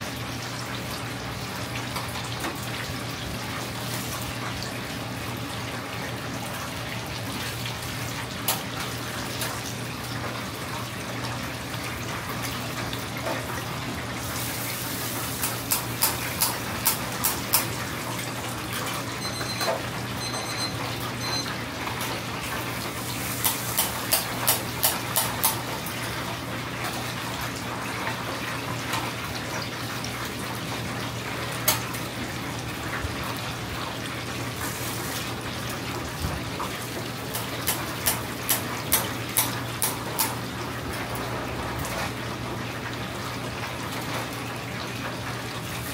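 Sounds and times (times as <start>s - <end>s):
oil sizzling and crackling: 0.0s - 45.9s.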